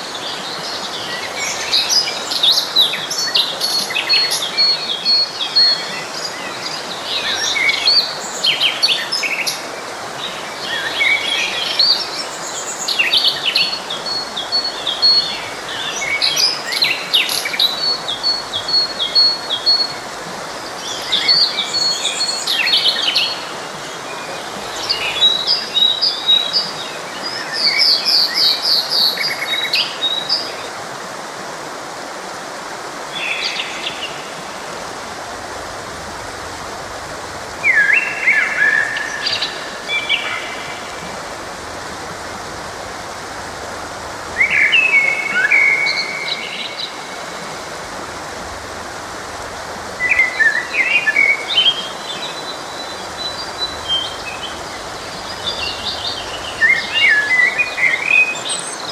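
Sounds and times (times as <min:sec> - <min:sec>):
songbirds chirping and trilling: 0:00.0 - 0:30.8, 0:32.9 - 0:58.9
stream flowing: 0:00.0 - 0:58.9.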